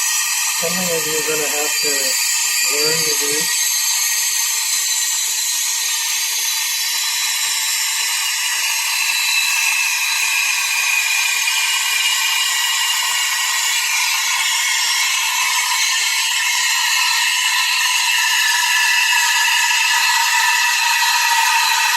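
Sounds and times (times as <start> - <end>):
steam wand hissing in milk: 0.0 - 21.9.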